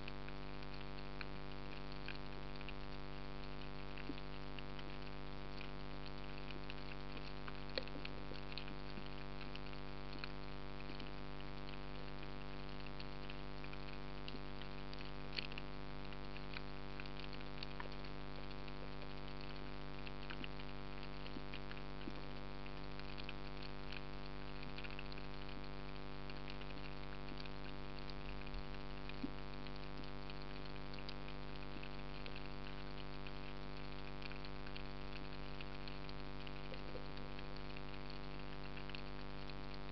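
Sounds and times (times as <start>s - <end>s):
crackle of fine clicks: 0.0s - 39.9s
underwater hum: 0.0s - 39.9s.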